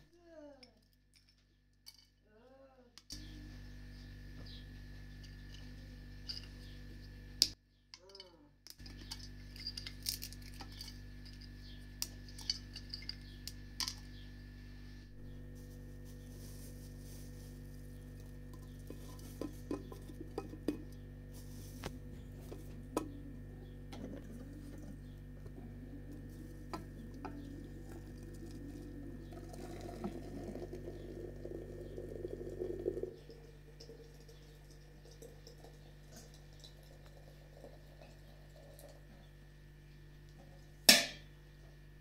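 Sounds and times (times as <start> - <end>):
steady low hum: 1.2 - 42.0.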